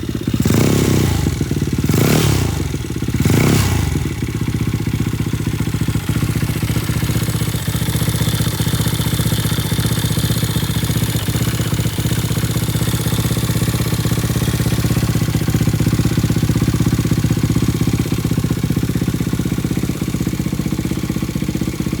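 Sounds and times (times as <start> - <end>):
minibike engine idling: 0.0 - 22.0.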